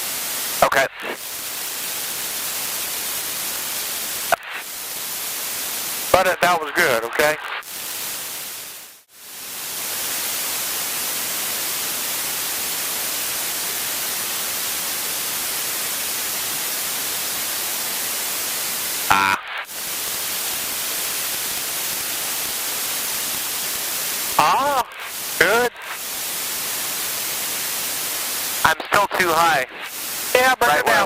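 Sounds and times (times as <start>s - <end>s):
headset static hiss: 0.0s - 31.0s.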